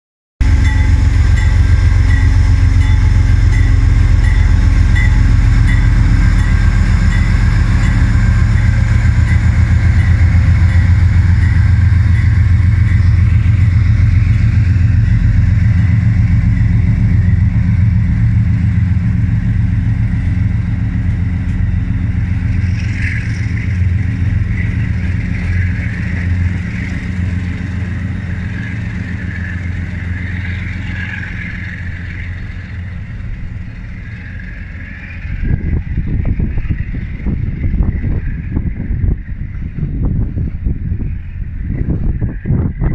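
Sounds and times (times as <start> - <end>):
diesel locomotive rumble: 0.4 - 42.9
train coaches rolling past: 0.4 - 42.9.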